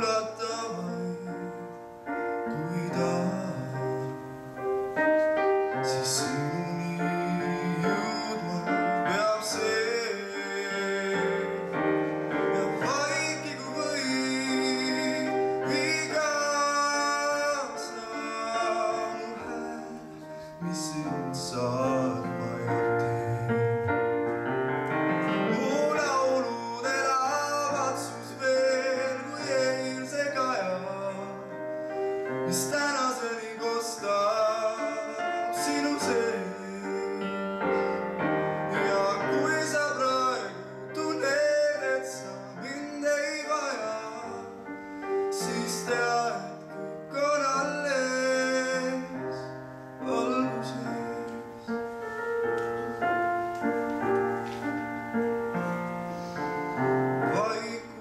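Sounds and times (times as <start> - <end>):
piano: 0.0 - 58.0
young man singing: 0.0 - 58.0.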